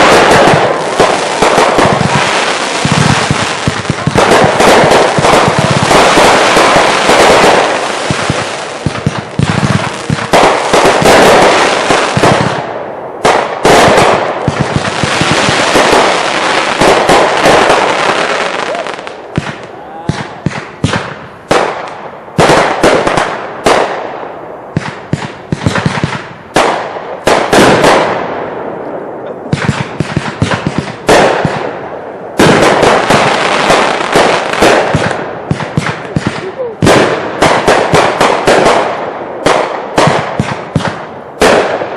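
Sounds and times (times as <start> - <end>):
fireworks bursts and crackling: 0.0 - 41.9.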